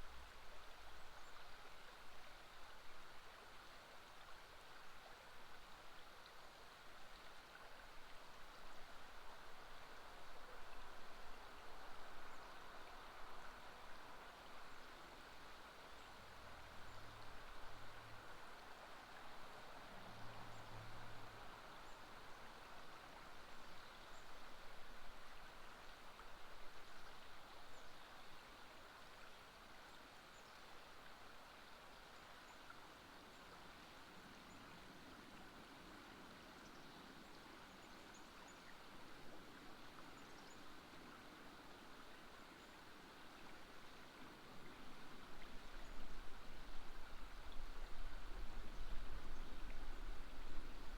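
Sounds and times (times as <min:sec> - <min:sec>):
river water flowing: 0:00.0 - 0:50.9.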